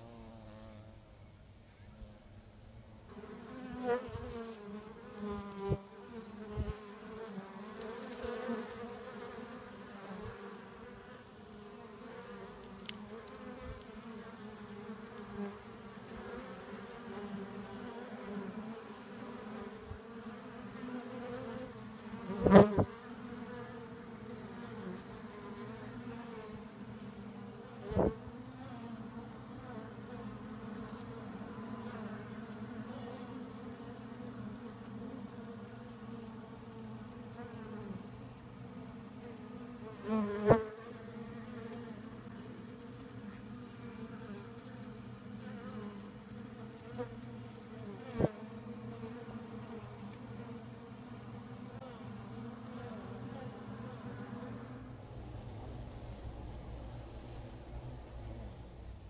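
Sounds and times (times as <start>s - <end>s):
bees buzzing: 3.1s - 55.0s.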